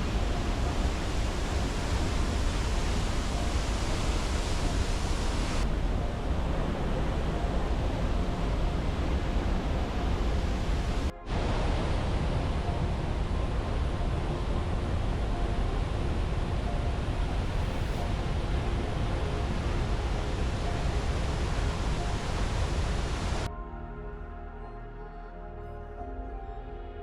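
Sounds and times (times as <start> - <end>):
waterfall roaring: 0.0 - 23.5.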